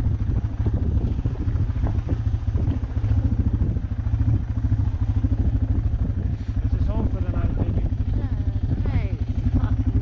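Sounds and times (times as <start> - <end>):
vehicle engine running at low speed: 0.0 - 10.0.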